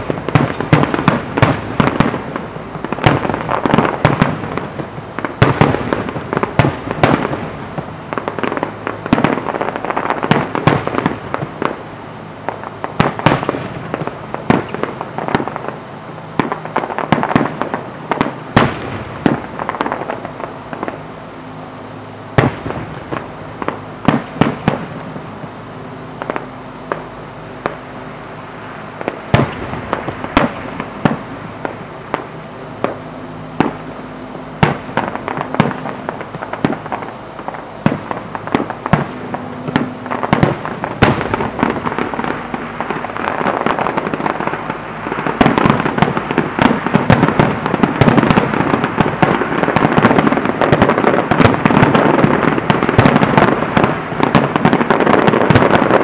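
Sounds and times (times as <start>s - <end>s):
fireworks shells bursting with bangs: 0.0s - 56.0s.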